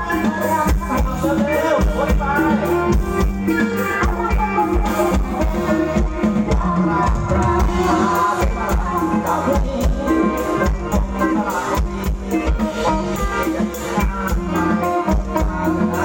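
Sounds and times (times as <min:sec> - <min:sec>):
drum kit beat: 0:00.0 - 0:16.0
live band music: 0:00.0 - 0:16.0.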